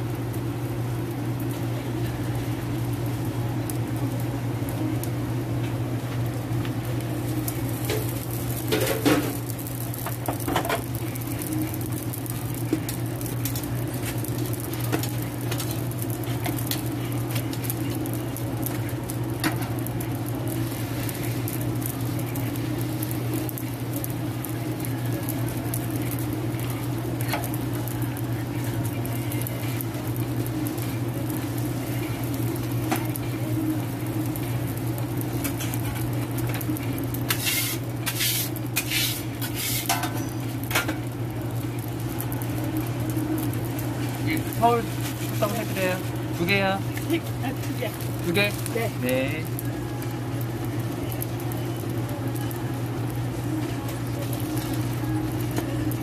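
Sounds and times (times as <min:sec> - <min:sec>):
food sizzling on a griddle: 0:00.0 - 0:56.0.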